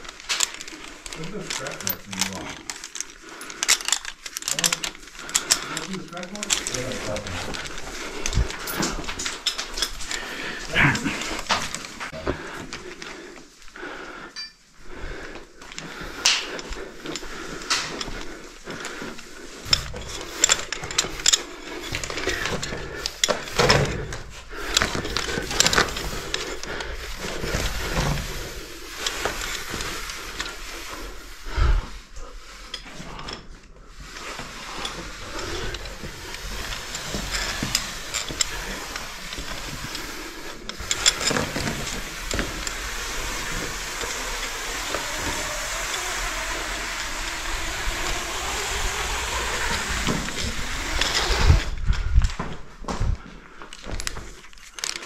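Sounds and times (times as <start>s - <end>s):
climbing gear clinking: 0.0s - 55.0s.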